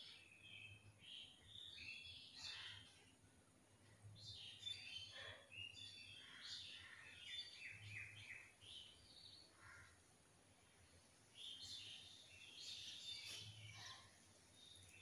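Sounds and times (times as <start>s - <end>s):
faint bird chirps and twittering: 0.0s - 15.0s.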